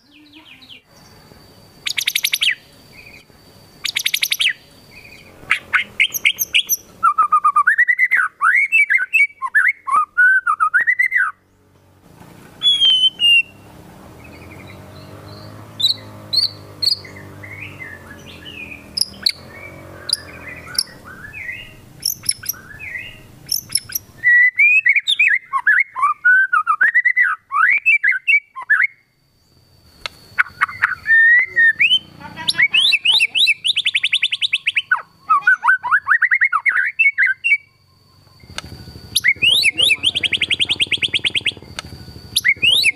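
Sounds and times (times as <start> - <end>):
bird singing: 0.0 - 12.0, 12.6 - 42.9.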